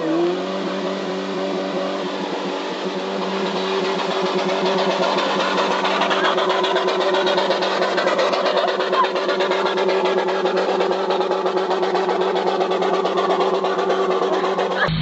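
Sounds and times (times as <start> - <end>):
truck churning through mud: 0.0 - 15.0
truck engine under load: 0.0 - 15.0.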